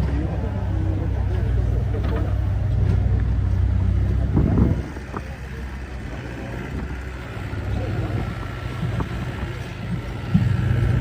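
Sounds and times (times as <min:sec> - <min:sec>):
engine rumbling: 0:00.0 - 0:11.0
faint outdoor background noise: 0:00.0 - 0:11.0.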